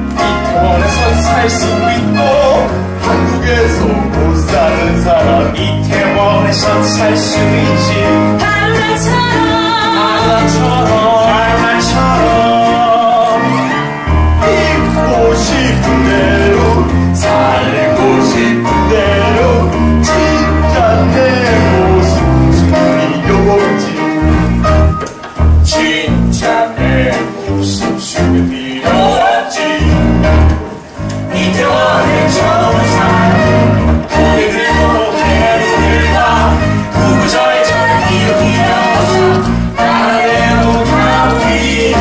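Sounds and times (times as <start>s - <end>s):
band accompaniment: 0.0s - 42.0s
moving bass line: 0.0s - 42.0s.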